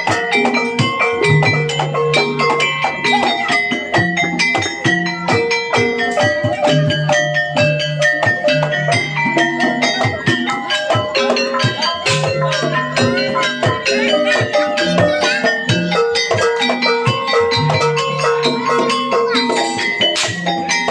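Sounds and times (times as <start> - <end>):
drums: 0.0 - 20.9
gamelan tuned metal percussion: 0.0 - 20.9.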